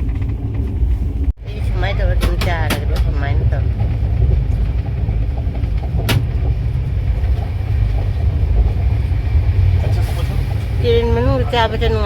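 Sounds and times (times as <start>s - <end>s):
train rumble from inside coach: 0.0s - 12.0s.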